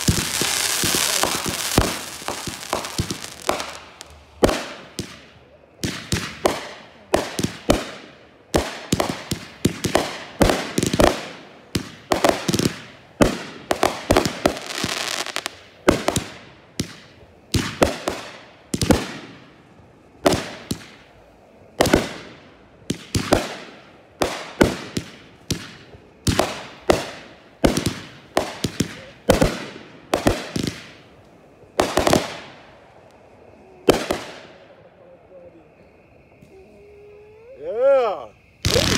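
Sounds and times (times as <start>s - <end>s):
fireworks bursting: 0.0s - 34.9s, 38.1s - 38.9s.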